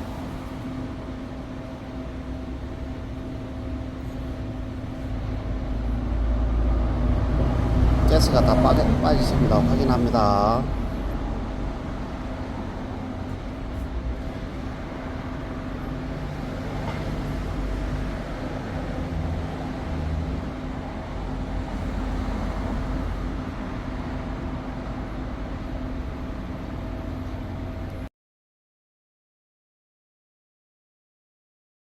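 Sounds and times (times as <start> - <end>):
machine humming: 0.0 - 28.1.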